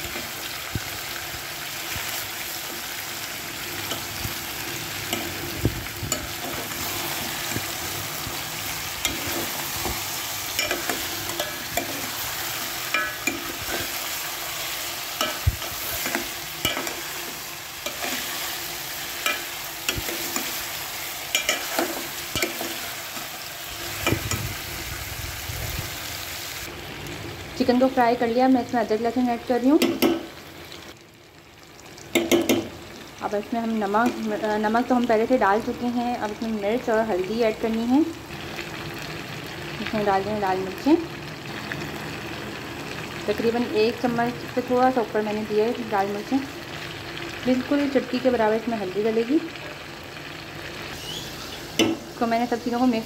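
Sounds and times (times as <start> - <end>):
chicken sizzling in oil: 0.0 - 53.0.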